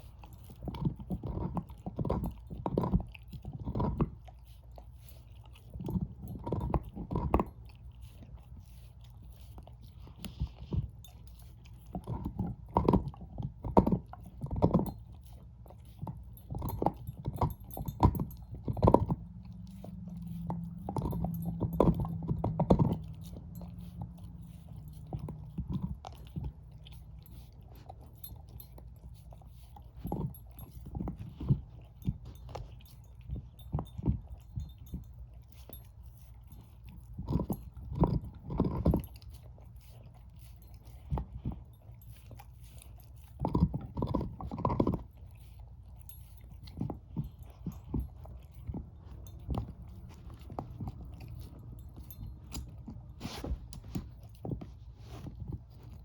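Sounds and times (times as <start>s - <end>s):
dog chewing a bone: 0.0s - 56.0s.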